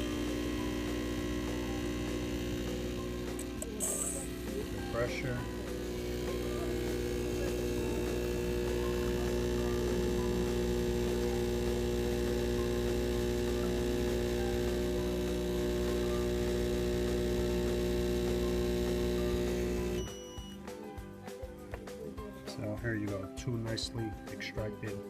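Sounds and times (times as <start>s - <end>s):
espresso machine pump humming: 0.0s - 20.6s.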